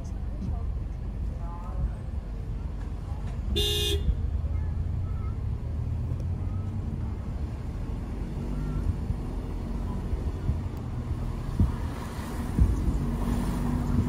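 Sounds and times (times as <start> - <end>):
car driving along a road: 0.0 - 14.0.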